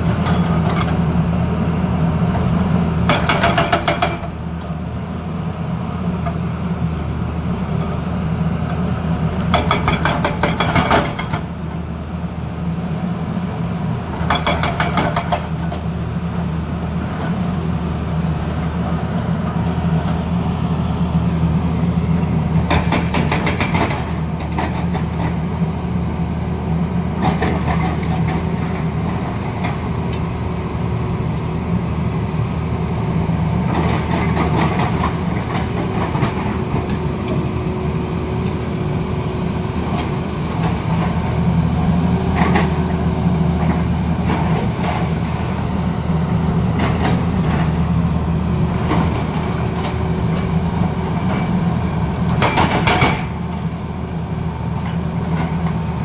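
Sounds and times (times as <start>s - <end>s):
excavator diesel engine humming: 0.0s - 56.0s.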